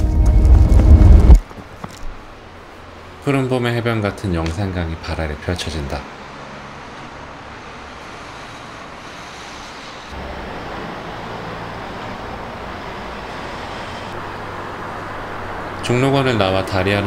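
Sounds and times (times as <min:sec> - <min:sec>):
cars passing over a bridge: 0:01.4 - 0:17.0.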